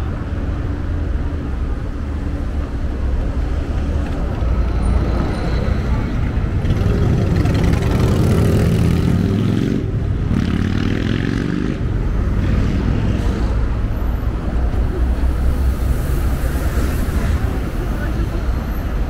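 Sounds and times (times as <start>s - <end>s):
low rumble of traffic: 0.0s - 19.0s
passing engine: 1.6s - 19.0s.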